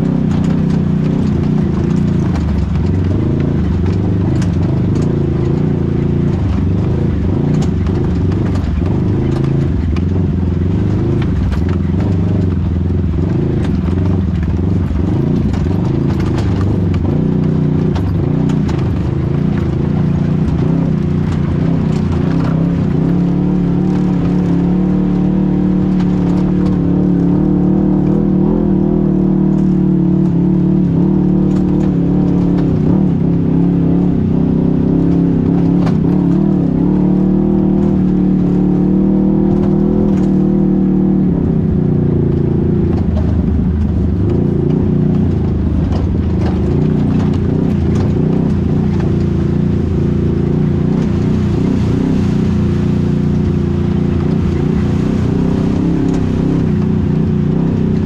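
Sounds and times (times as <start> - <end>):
knocks and rattles: 0.0 - 58.0
vehicle engine running: 0.0 - 58.0.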